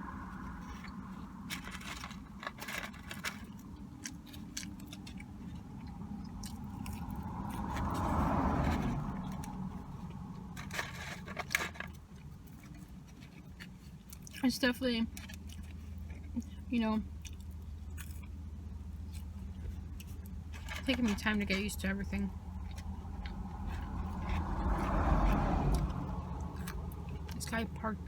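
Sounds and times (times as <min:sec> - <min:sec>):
crunchy chewing: 0:00.0 - 0:28.0
steady low hum: 0:00.0 - 0:28.0.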